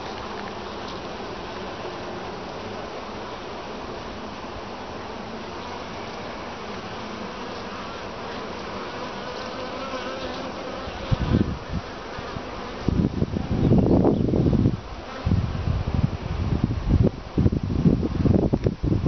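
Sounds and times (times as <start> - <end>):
honey bees buzzing: 0.0 - 15.6.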